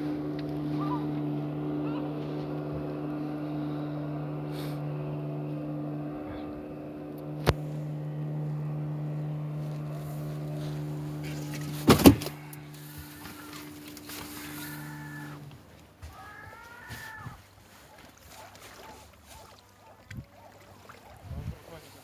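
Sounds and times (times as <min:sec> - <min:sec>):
ship machinery hum: 0:00.0 - 0:22.0.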